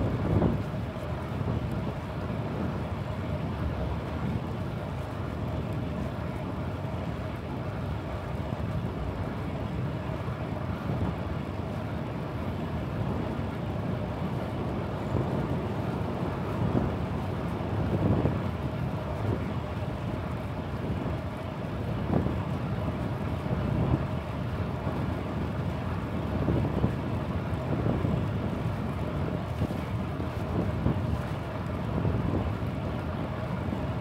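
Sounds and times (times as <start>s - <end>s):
road noise rumble: 0.0s - 34.0s
wind buffeting microphone: 0.0s - 34.0s.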